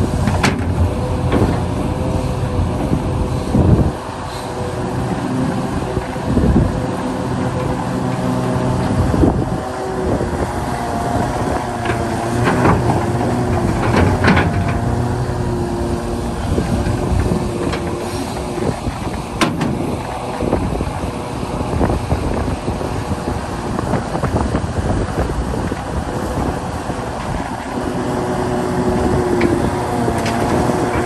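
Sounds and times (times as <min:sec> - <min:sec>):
excavator diesel engine: 0:00.0 - 0:31.0
wavering hydraulic whine: 0:00.0 - 0:31.0.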